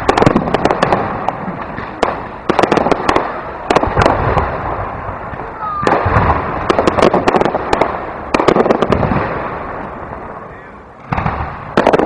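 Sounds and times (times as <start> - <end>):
fireworks cracking and popping: 0.0 - 12.0
fireworks low boom: 0.0 - 12.0.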